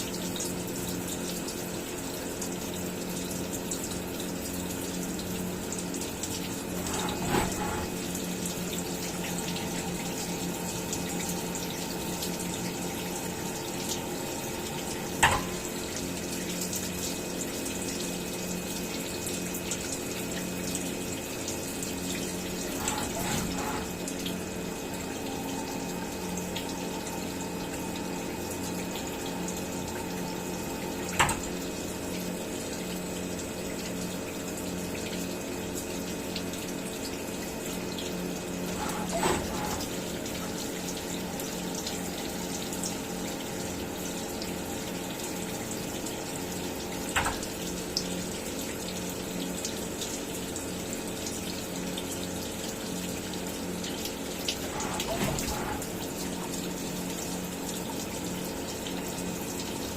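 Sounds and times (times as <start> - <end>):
milling machine humming: 0.0 - 59.9.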